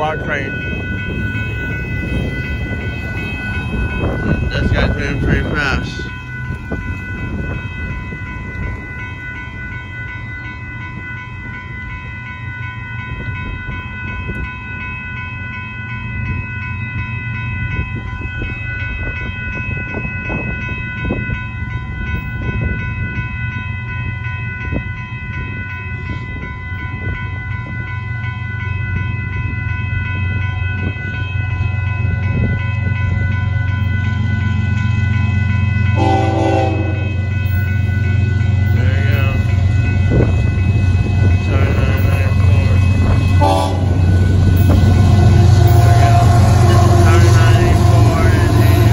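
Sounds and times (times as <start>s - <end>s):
crossing warning bells ringing: 0.0s - 48.9s
freight train rumble: 0.0s - 48.9s
train clanks: 0.0s - 48.9s.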